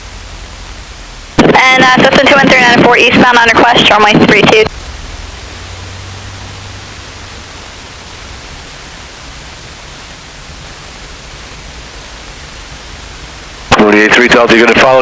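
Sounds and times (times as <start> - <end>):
low hum: 0.0 - 15.0
radio headset hiss: 0.0 - 15.0.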